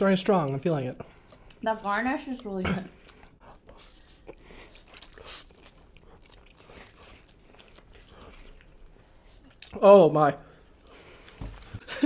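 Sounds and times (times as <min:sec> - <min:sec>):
people chewing and slurping noodles: 0:00.0 - 0:12.0.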